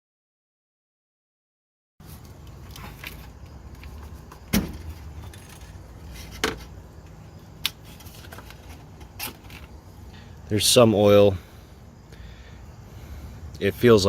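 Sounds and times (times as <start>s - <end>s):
low steady hum: 2.0s - 14.0s.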